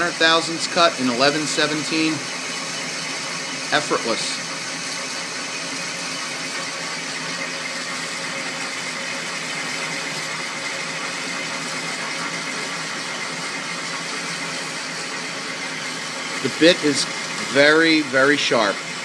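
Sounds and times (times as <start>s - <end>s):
lathe cutting steel: 0.0s - 19.0s
screeching motor bearings: 0.0s - 19.0s.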